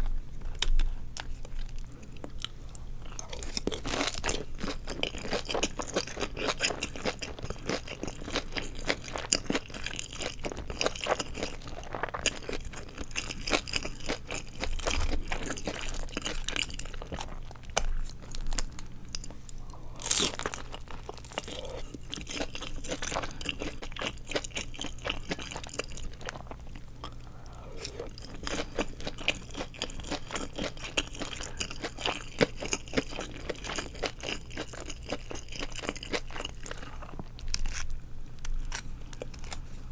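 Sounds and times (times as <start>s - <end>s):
crunching crisp food: 0.0s - 39.9s.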